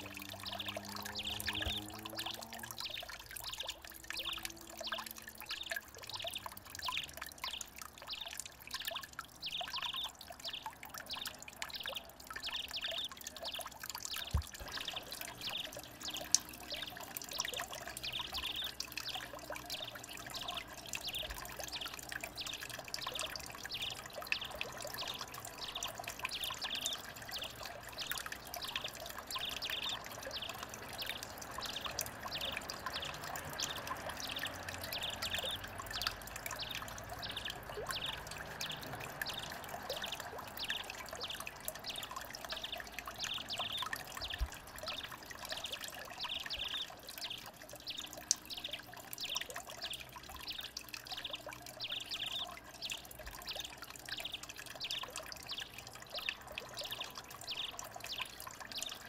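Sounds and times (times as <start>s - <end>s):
birds splashing in water: 0.0s - 59.0s
water trickling down rocks: 0.0s - 59.0s.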